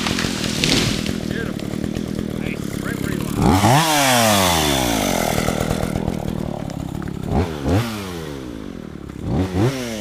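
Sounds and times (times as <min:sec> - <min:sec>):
chainsaw engine revving: 0:00.0 - 0:10.0.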